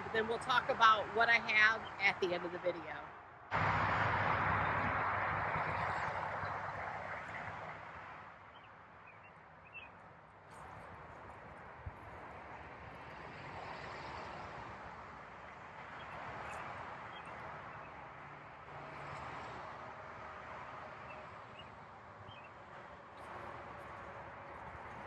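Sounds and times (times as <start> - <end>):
highway traffic passing: 0.0 - 25.0.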